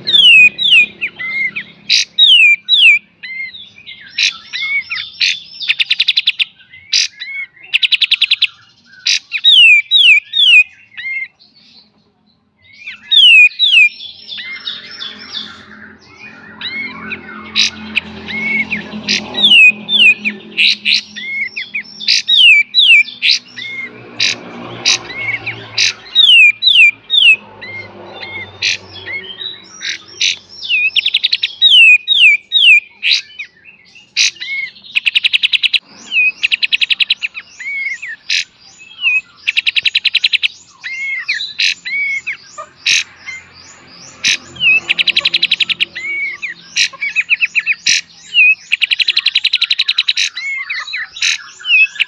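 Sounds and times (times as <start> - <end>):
fast buzzy bird trill: 0.0 - 11.3, 12.9 - 52.0.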